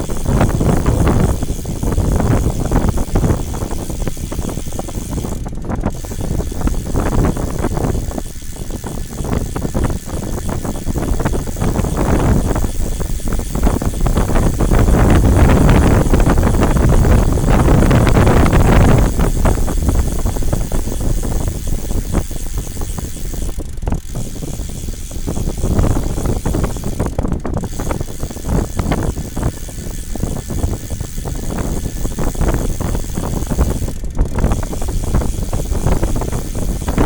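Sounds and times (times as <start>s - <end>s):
small rattles and clicks: 0.0s - 37.0s
wind buffeting microphone: 0.0s - 37.0s.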